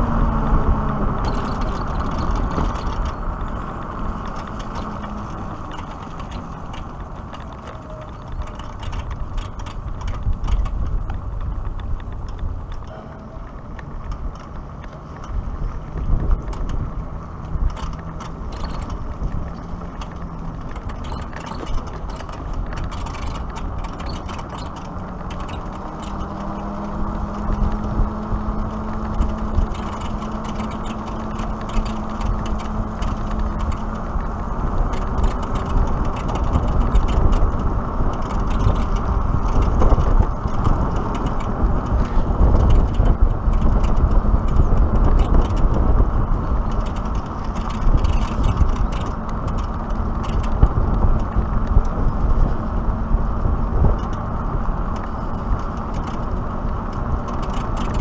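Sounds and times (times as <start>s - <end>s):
motorcycle tyre noise: 0.0s - 58.0s
wind noise on microphone: 0.0s - 58.0s
clicks and rattles: 1.2s - 52.7s, 53.7s - 58.0s.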